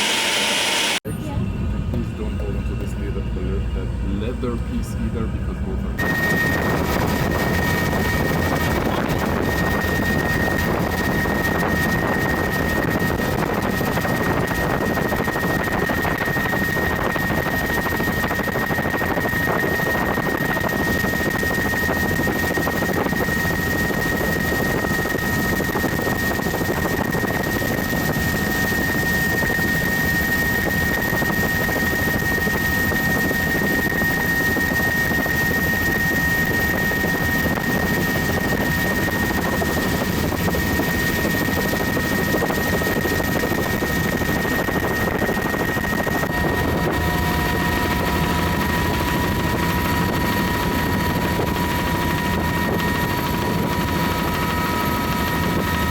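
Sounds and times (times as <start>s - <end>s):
constant high whine: 0.0s - 55.9s
helicopter rotor and engine: 0.0s - 55.9s
lower whine: 0.0s - 55.9s.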